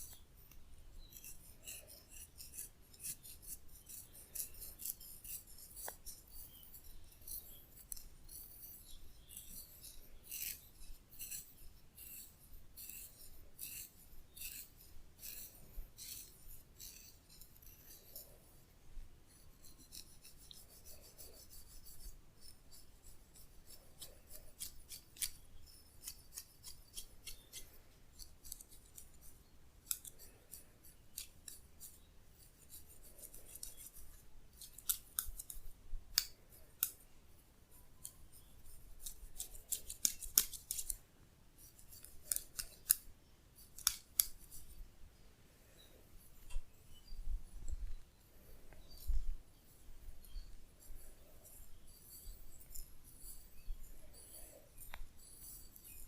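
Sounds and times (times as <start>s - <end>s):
fingers scratching through hair: 0.0s - 18.6s, 19.3s - 37.1s, 37.7s - 41.0s, 41.6s - 44.9s, 47.6s - 56.0s.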